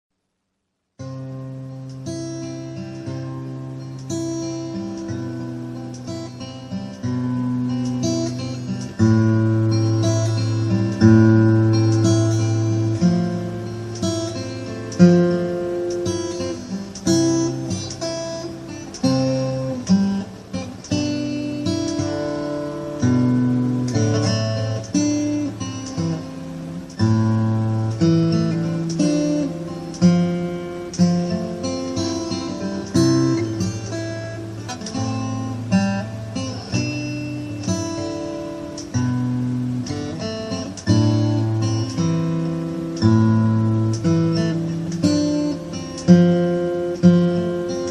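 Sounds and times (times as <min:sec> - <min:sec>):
acoustic guitar playing slowly: 0:01.0 - 0:47.9.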